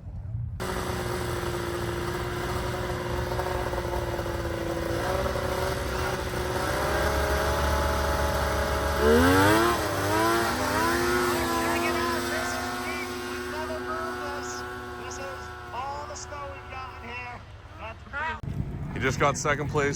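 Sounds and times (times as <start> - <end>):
snowmobile engine idling and revving: 0.3 - 19.9.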